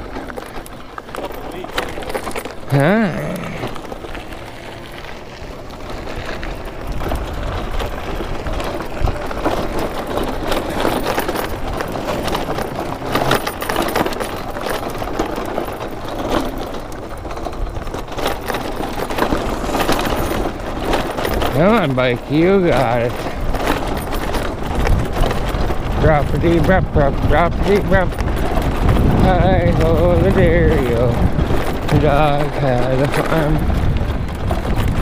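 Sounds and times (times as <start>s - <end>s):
bike frame rattling: 0.0s - 35.0s
tyres crunching on rocky ground: 0.0s - 35.0s.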